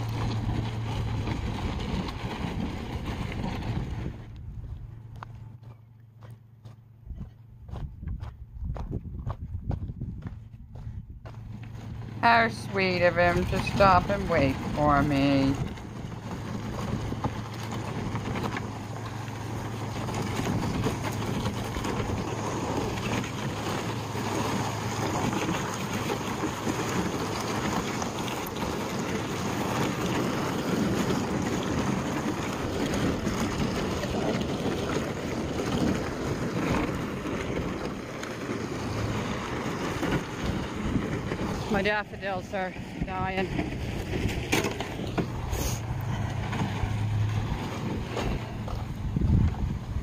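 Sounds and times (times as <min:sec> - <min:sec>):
plastic scraping over gravel: 0:00.0 - 0:05.8, 0:11.3 - 0:50.0
low engine hum: 0:00.0 - 0:50.0.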